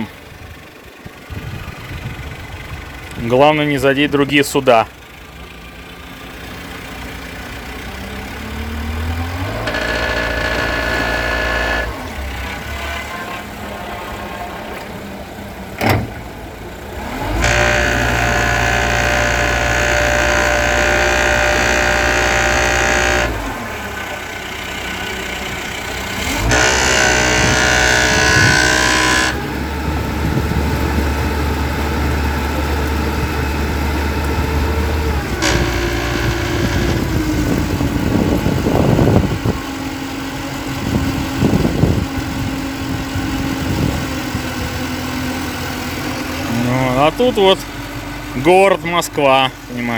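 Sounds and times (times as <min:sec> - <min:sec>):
boat engine running: 0:00.0 - 0:49.9.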